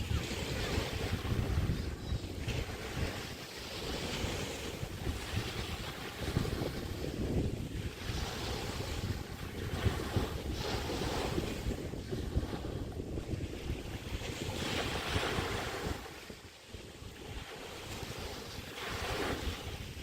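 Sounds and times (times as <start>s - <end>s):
waves washing onto beach: 0.0s - 20.0s
wind buffeting microphone: 0.0s - 20.0s.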